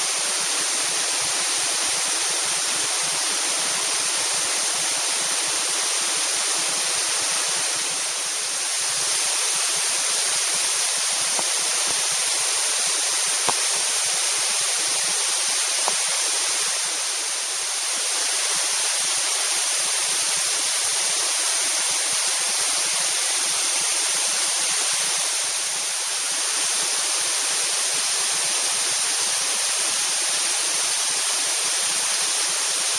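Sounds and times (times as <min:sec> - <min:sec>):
waterfall pouring: 0:00.0 - 0:32.9.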